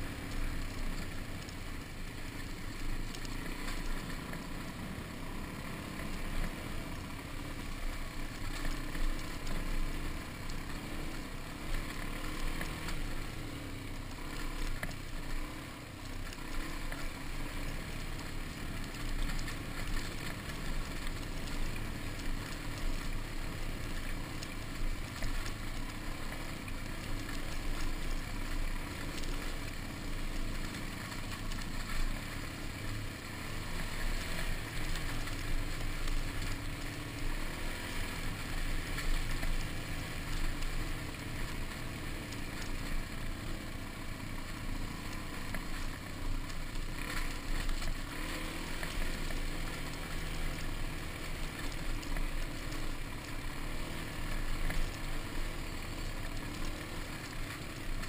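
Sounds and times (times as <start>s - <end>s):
constant rushing noise: 0.0s - 58.0s
dirt bike engine running: 0.0s - 58.0s.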